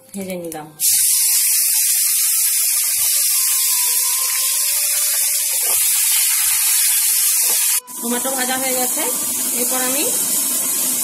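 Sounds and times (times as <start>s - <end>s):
tomatoes sizzling in hot oil: 0.8s - 11.0s.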